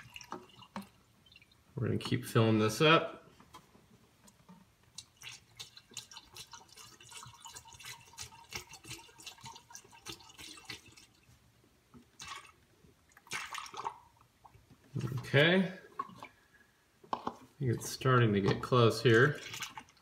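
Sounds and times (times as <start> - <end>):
coolant splashing through a funnel: 0.0 - 2.1, 4.8 - 16.4, 17.6 - 20.0.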